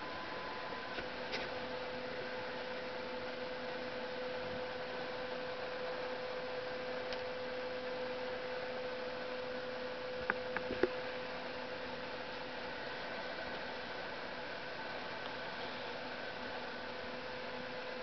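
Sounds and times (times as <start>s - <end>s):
constant hiss: 0.0s - 18.0s
steady electrical hum: 0.0s - 18.0s.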